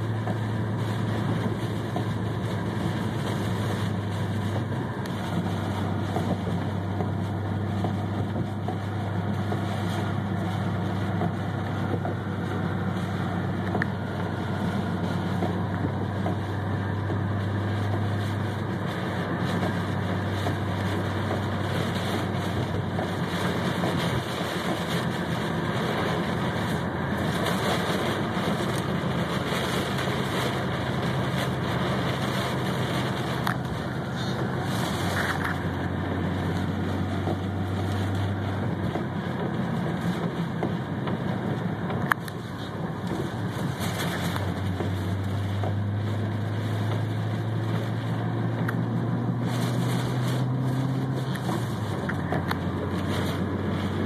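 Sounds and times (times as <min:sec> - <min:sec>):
car engine drone: 0:00.0 - 0:54.0
heavy rain on a car: 0:00.0 - 0:54.0
tyres on flooded road: 0:00.0 - 0:54.0.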